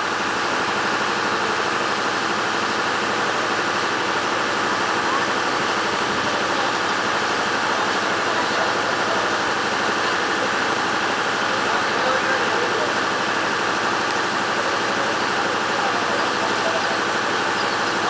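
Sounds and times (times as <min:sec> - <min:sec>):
passengers' voices: 0:03.1 - 0:18.0.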